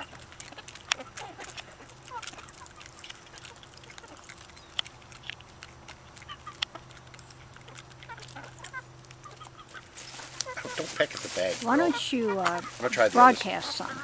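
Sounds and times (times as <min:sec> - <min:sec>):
sharp pecking clicks: 0:00.0 - 0:12.7
hens clucking and chirping: 0:00.0 - 0:14.0.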